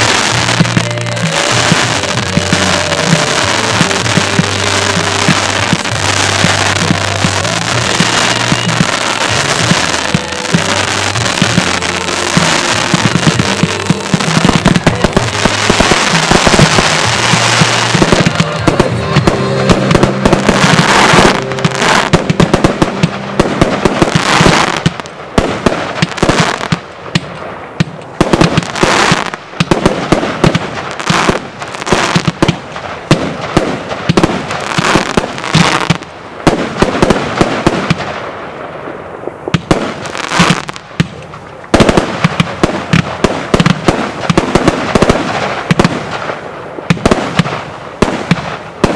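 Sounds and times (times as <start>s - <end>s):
fireworks crackling and banging: 0.0s - 48.9s.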